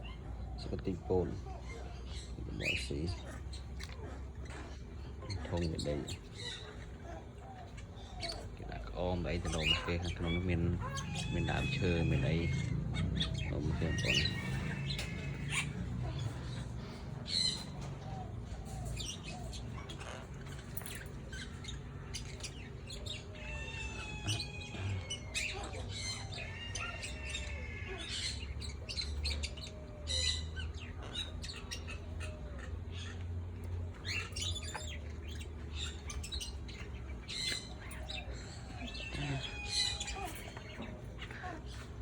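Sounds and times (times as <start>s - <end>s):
parrots squawking: 0.0s - 42.0s.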